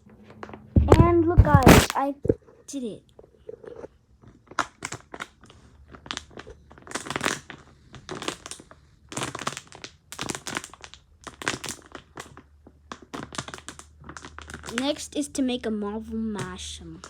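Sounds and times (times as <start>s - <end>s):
plastic bottle crackling: 0.4s - 2.5s, 3.4s - 15.1s.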